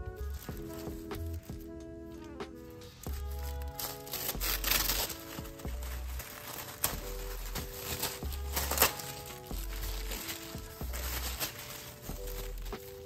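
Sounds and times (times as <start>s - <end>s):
background music: 0.0s - 13.0s
tissue paper rustling and tearing: 0.0s - 13.0s.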